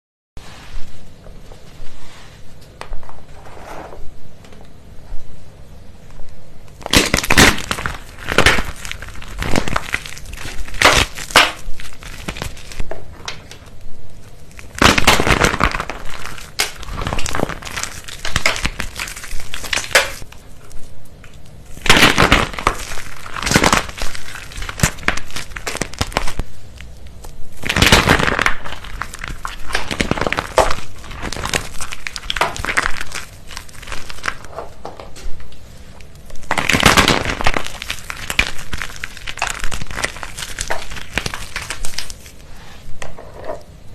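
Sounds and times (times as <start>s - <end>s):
dried soap crackling and crunching: 6.6s - 43.8s.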